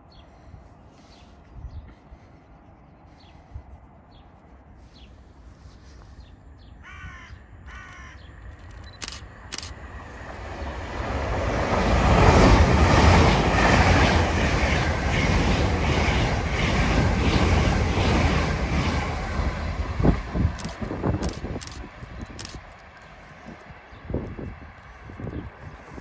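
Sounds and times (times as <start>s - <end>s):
train passing rumble: 0.0s - 26.0s.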